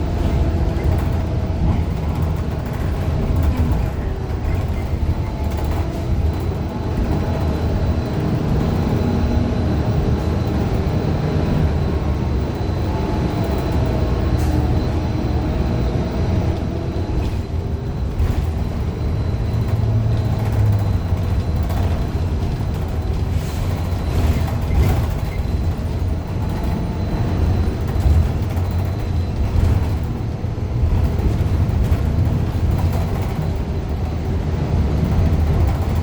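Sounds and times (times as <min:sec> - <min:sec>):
bus engine running: 0:00.0 - 0:36.0
deep road rumble: 0:00.0 - 0:36.0.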